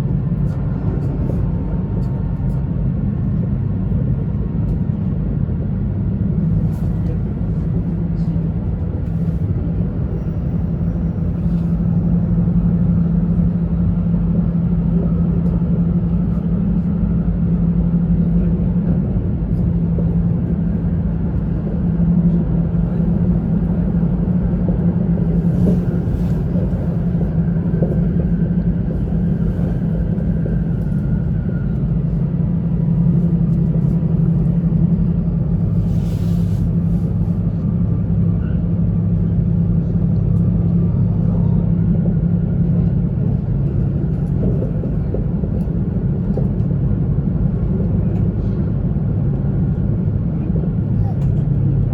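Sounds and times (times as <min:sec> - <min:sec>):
train cabin rumble and hum: 0:00.0 - 0:51.9.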